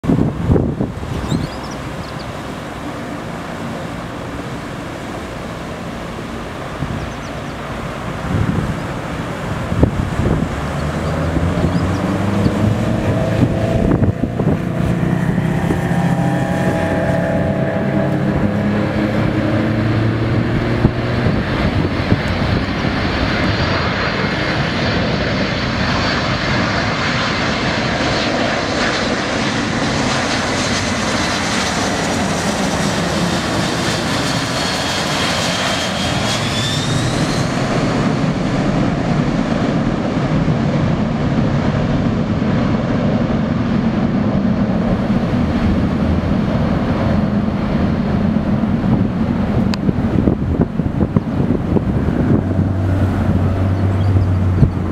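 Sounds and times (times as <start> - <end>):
jet engines roaring with whine: 0.0 - 54.9.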